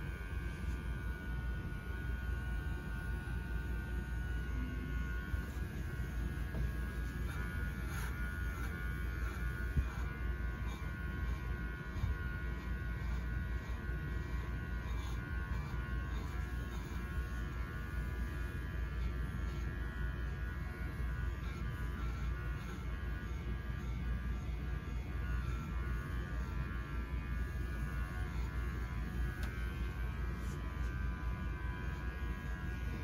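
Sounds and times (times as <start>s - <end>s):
electric hair clippers buzzing: 0.0s - 33.0s.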